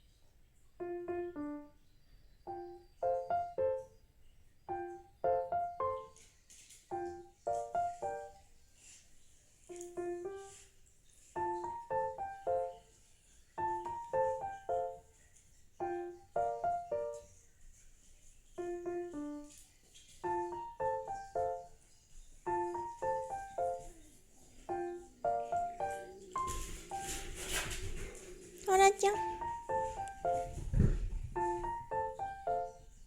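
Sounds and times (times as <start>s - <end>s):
light piano music: 0.0s - 33.0s.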